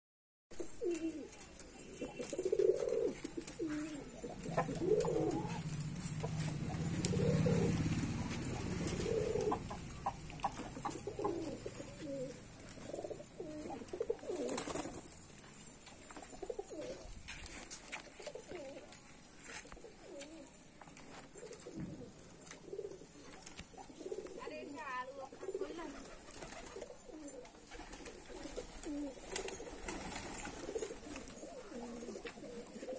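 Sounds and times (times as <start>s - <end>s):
pigeons cooing: 0.6s - 15.2s, 16.1s - 17.2s, 18.2s - 18.9s, 19.8s - 20.6s, 21.3s - 32.9s.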